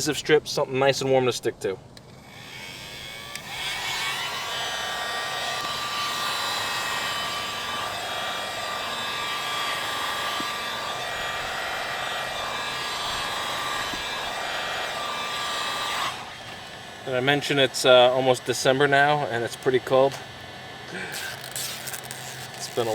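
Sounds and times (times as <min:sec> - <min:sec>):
heat gun blowing: 0:02.0 - 0:22.9.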